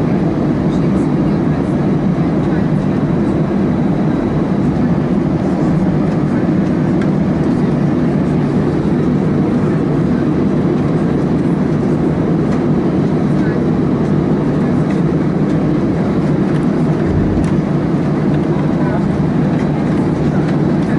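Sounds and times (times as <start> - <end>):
jet engines idling in cabin: 0.0 - 20.9.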